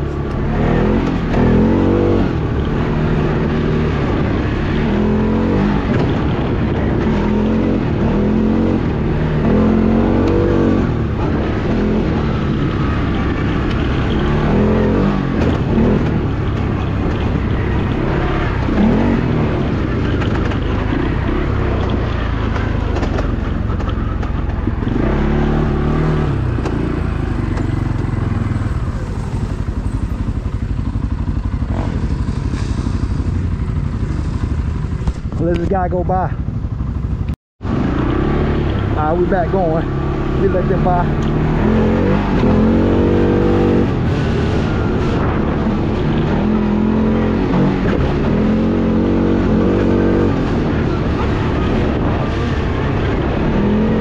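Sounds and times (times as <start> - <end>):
off-road vehicle engine revving: 0.0 - 36.3, 37.6 - 54.0.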